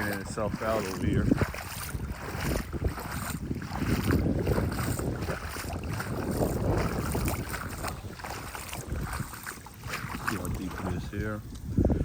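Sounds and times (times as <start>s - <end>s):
floodwater sloshing and running: 0.0s - 12.0s
wind rumbling on microphone: 0.0s - 12.0s.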